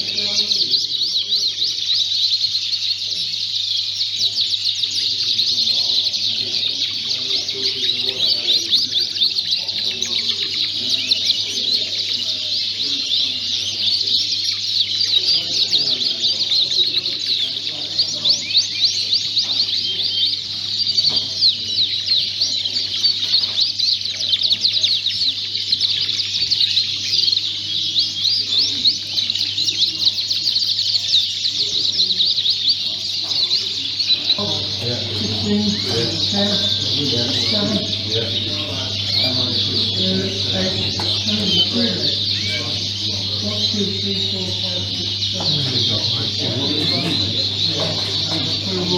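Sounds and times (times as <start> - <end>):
canaries singing and chirping: 0.0 - 48.9
faint low murmur: 4.0 - 48.9.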